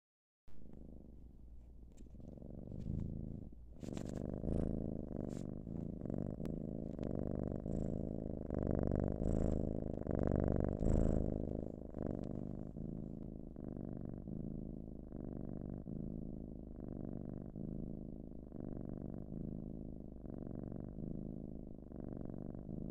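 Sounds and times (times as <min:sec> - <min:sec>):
person imitating cat purr: 0:02.1 - 0:22.9.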